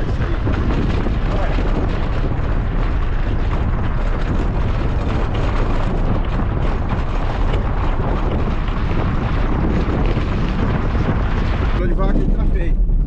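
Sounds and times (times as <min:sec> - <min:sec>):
vehicle road rumble: 0:00.0 - 0:13.0
wind buffeting microphone: 0:00.0 - 0:13.0.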